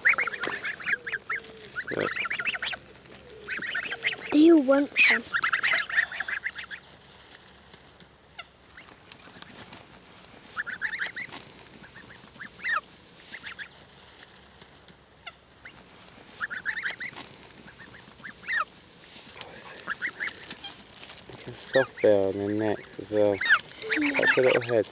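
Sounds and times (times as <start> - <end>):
geese high-pitched calls: 0.0 - 24.9.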